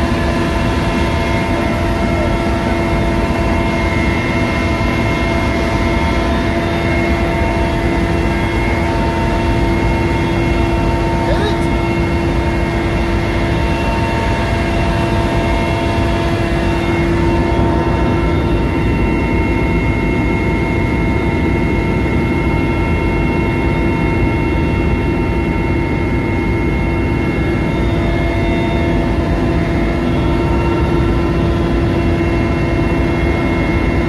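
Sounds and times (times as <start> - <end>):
constant high whine: 0.0 - 34.0
helicopter engine and rotor noise: 0.0 - 34.0.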